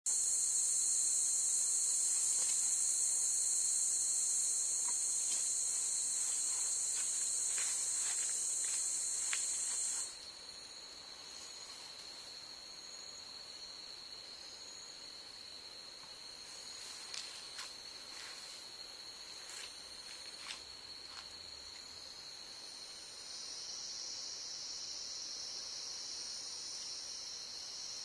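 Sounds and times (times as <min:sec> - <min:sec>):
insects buzzing: 0:00.1 - 0:28.0.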